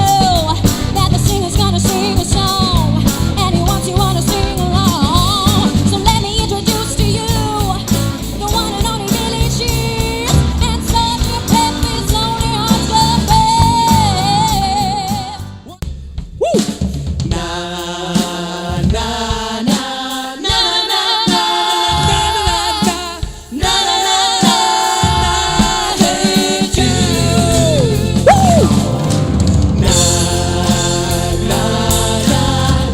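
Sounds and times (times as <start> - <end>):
band music with singing: 0.0 - 32.9.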